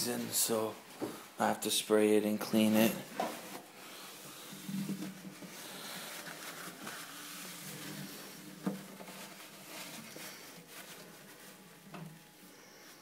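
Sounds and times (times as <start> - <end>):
rustling handling noise: 0.0 - 13.0.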